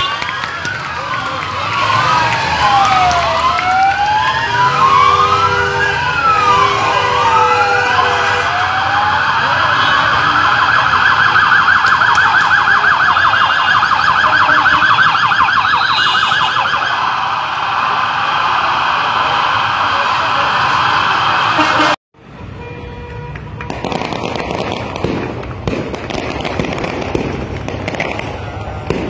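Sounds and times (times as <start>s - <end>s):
vehicle sirens wailing and yelping: 0.0s - 22.0s, 26.3s - 29.0s.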